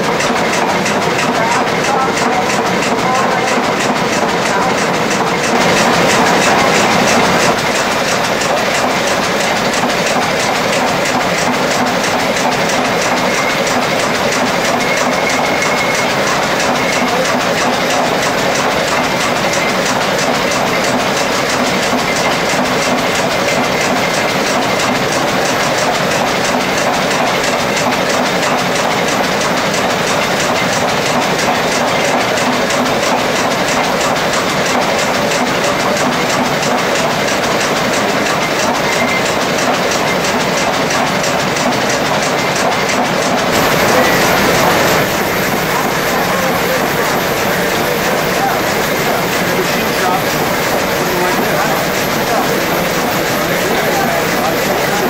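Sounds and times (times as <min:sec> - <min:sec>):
line shaft belts clattering: 0:00.0 - 0:55.0.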